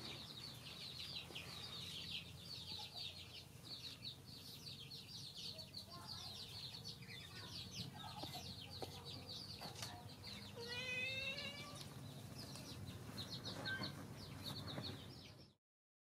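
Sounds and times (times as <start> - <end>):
chicks peeping: 0.0 - 15.6.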